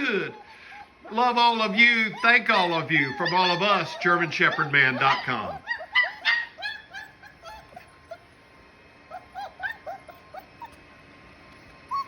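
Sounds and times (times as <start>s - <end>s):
puppies whimpering and yipping: 0.0s - 12.0s.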